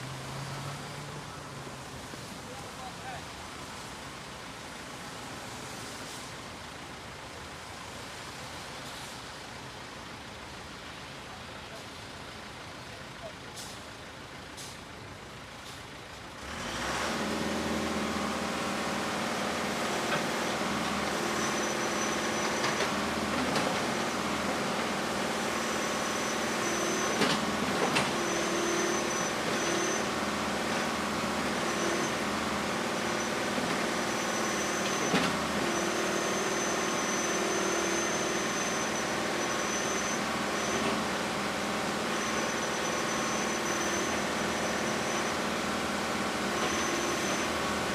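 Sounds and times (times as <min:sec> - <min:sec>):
diesel machinery engine running: 0:00.0 - 0:47.9.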